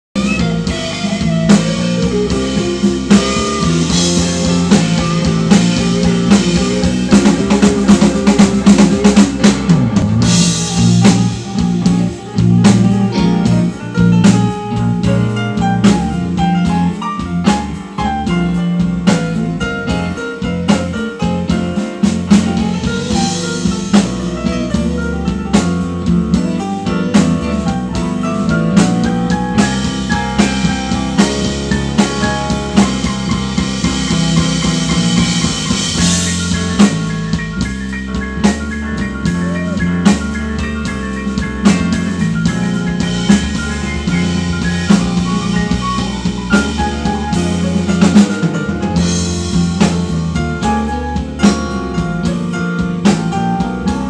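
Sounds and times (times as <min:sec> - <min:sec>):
electric bass: 0:00.0 - 0:54.0
drum kit: 0:00.1 - 0:54.0
electric guitar: 0:00.2 - 0:54.0
keyboard solo: 0:00.2 - 0:54.0.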